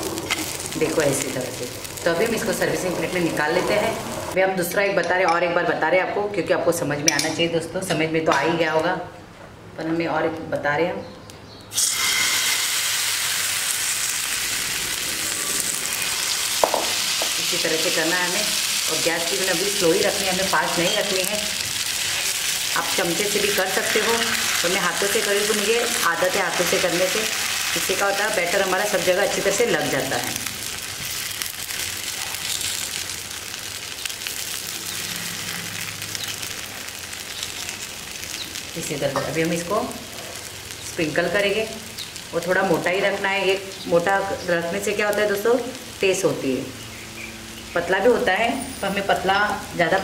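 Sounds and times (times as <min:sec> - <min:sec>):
batter sizzling in hot oil: 0:00.0 - 0:04.4, 0:11.7 - 0:50.0.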